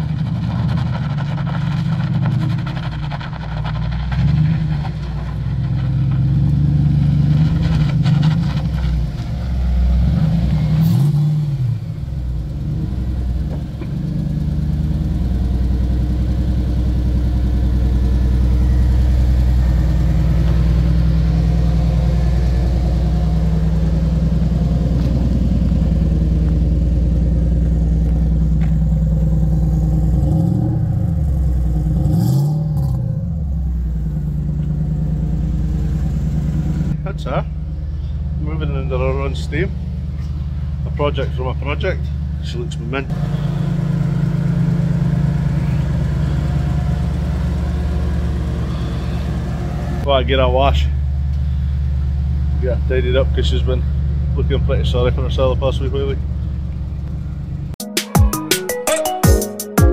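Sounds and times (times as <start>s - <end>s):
car engine idling and revving: 0.0s - 57.8s.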